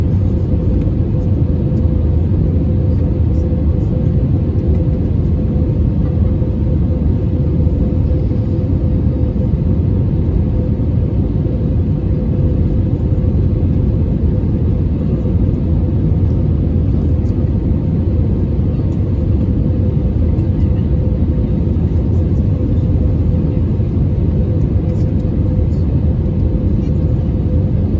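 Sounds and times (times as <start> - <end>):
airliner cabin engine rumble: 0.0 - 27.9
steady mid-pitched hum: 0.0 - 27.9.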